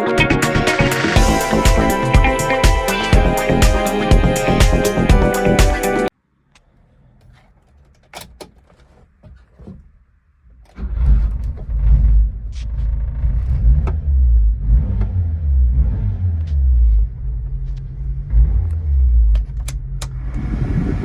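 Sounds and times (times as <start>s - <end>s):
car engine starting and rumbling: 3.1s - 21.0s.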